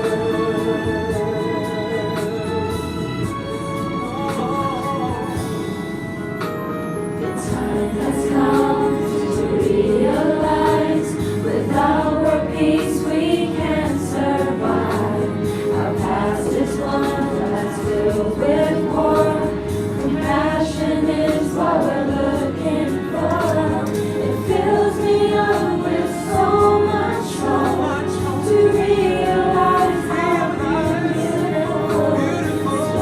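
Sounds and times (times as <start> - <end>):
people singing together: 0.0 - 3.4, 7.2 - 33.0
karaoke backing track: 0.0 - 33.0.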